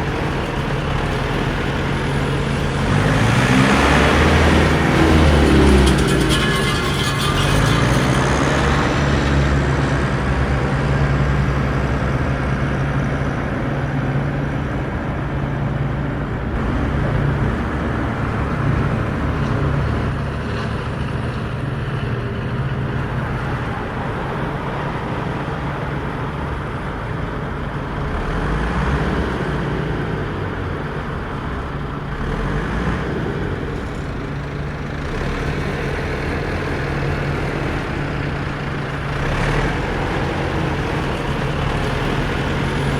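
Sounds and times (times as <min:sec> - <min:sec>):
tyre and road noise: 0:00.0 - 0:42.9
vehicle engine running: 0:00.0 - 0:42.9.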